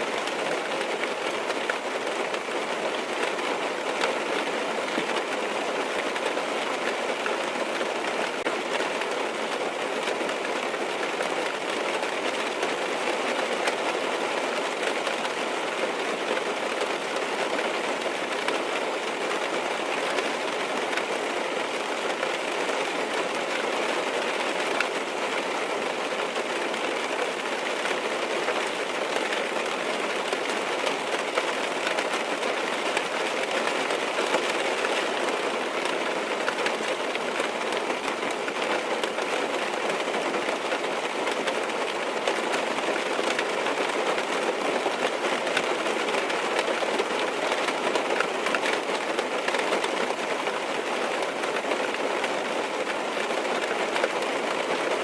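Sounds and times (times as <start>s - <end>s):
rain on a car roof: 0.0s - 55.0s.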